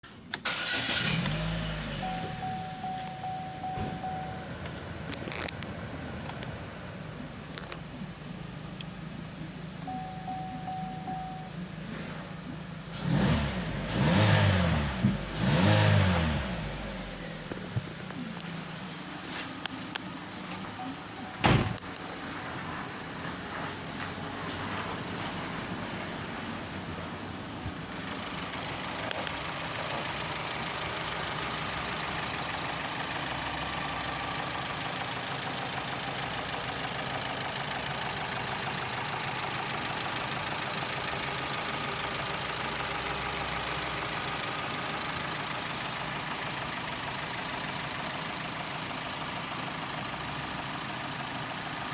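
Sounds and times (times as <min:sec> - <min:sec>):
car engine idling: 0:00.1 - 0:24.7, 0:26.5 - 0:51.9.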